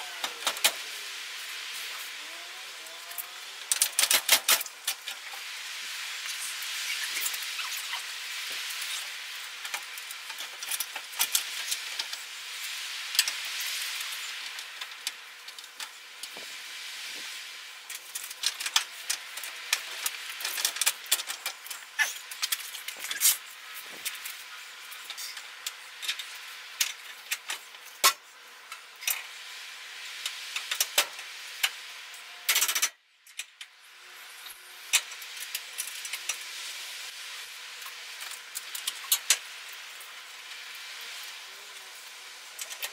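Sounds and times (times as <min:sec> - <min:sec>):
steady hiss: 0:00.0 - 0:32.8, 0:33.7 - 0:42.9.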